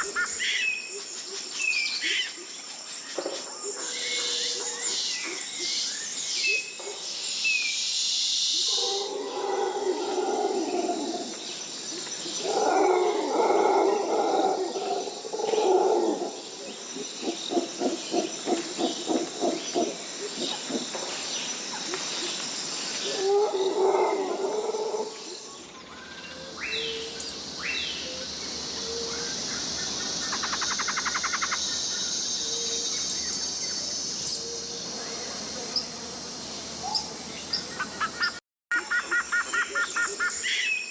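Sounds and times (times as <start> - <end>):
high insect drone: 0.0 - 38.4
insect chorus: 0.0 - 40.9.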